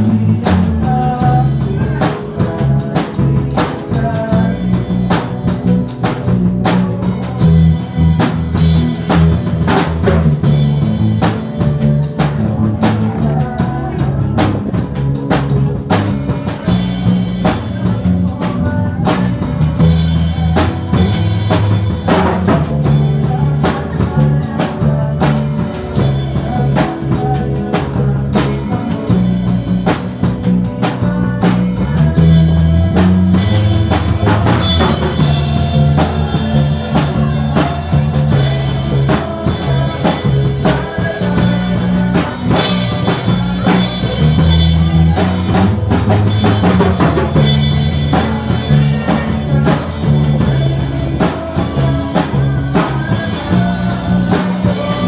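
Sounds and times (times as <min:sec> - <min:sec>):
bass line: 0:00.0 - 0:55.0
drum kit beat: 0:00.0 - 0:55.0
electric guitar: 0:00.0 - 0:55.0.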